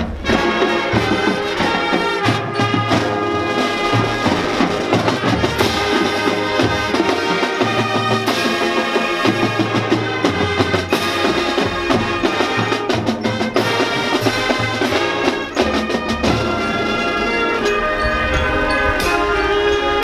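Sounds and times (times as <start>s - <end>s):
brass playing chords: 0.0s - 20.0s
drumline percussion: 0.0s - 20.0s
low brass bass line: 0.0s - 20.0s.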